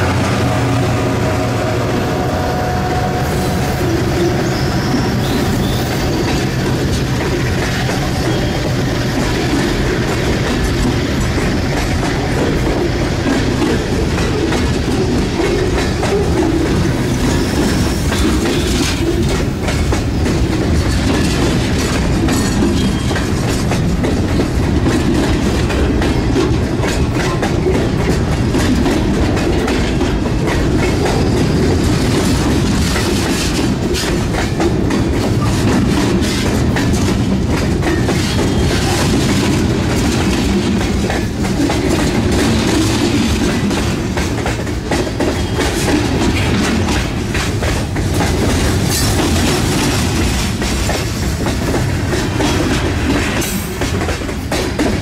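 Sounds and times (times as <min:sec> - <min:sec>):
model train wheels rumbling on track: 0:00.0 - 0:55.0
rail joint clicks: 0:00.0 - 0:55.0.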